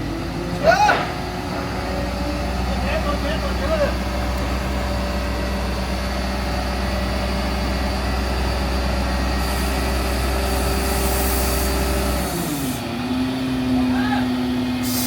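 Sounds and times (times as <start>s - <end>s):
heavy engine deep drone: 0.0s - 15.0s.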